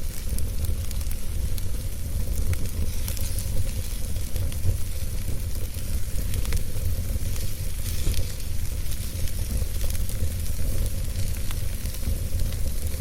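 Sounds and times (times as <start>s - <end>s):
fire crackles: 0.0s - 13.0s
wood fire burning: 0.0s - 13.0s.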